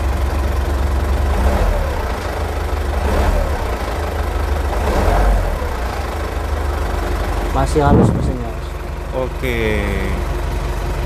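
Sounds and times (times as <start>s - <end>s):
minibus engine idling and revving: 0.0s - 11.0s.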